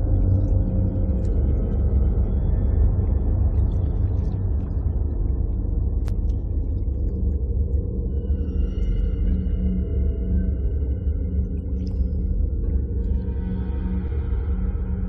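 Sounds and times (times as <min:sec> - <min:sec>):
deep rumbling ambient drone: 0:00.0 - 0:15.0.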